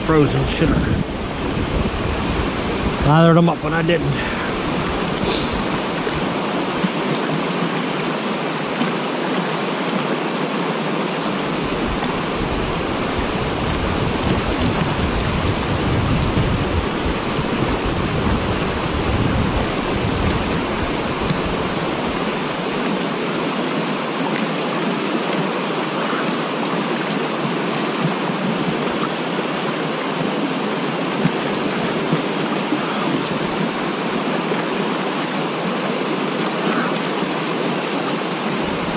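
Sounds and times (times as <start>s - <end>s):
water rushing over dam: 0.0s - 38.9s.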